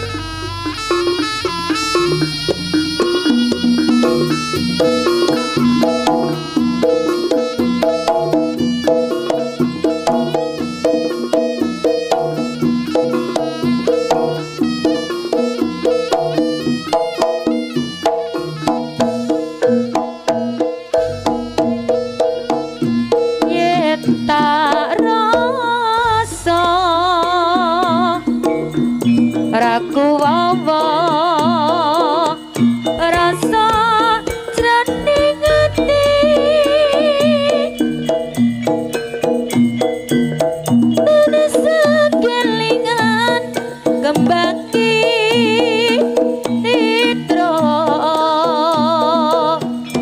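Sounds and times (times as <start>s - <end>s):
drums and gong-chime percussion: 0.0s - 50.0s
wavering melody line: 0.0s - 50.0s.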